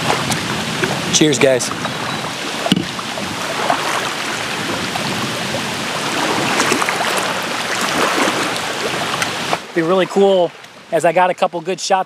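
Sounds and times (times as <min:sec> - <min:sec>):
lake waves splashing against rocks: 0:00.0 - 0:10.6.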